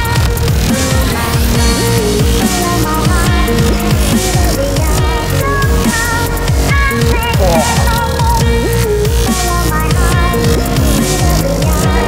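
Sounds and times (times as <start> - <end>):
electronic dubstep music: 0.7 - 12.0.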